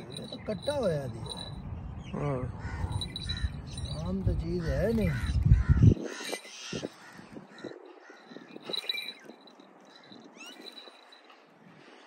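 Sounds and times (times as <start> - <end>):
bird harsh caw-like calls: 0.1 - 12.0.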